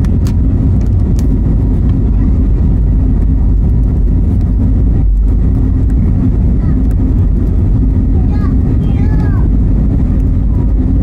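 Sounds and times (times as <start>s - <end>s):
jet cabin rumble while taxiing: 0.0s - 11.0s.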